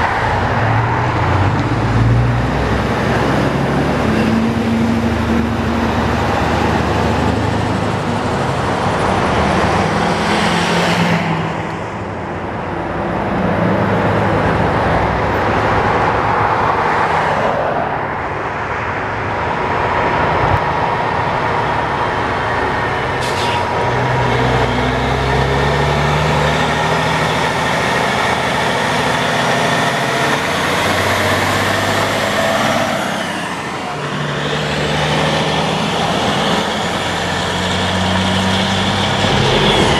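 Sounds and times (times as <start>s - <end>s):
cars passing: 0.0s - 39.9s
trucks passing on highway: 0.0s - 39.9s.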